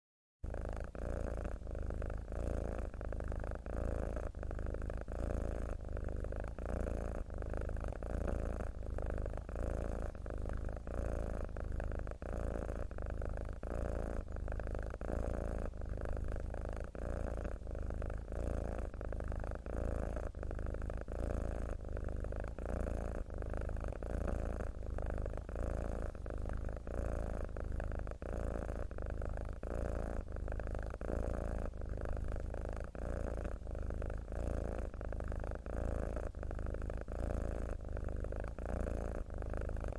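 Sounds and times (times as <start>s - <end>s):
cat purring: 0.4s - 39.9s.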